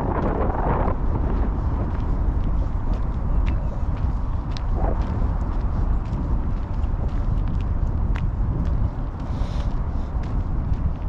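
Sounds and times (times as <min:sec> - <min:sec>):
footsteps on gravel: 0:00.0 - 0:11.0
steady low rumble: 0:00.0 - 0:11.0.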